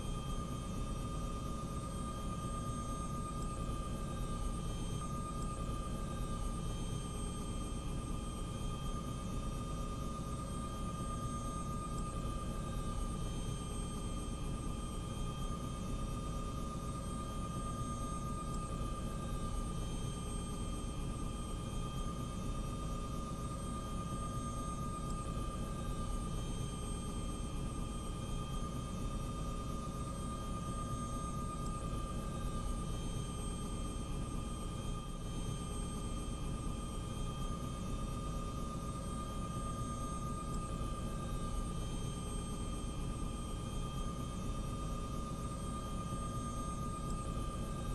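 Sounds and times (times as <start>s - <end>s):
aircraft engine rumble and whine: 0.0s - 47.9s.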